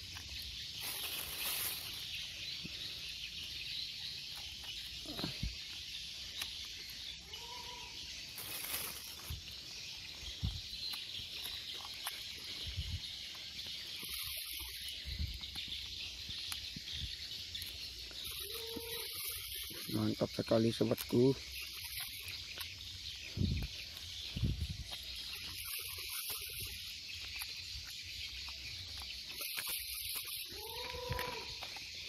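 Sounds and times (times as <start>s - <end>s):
forest insects droning: 0.0s - 32.0s.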